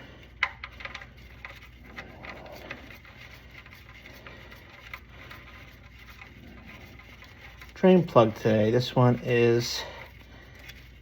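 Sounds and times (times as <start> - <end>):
low steady room hum: 0.0 - 11.0.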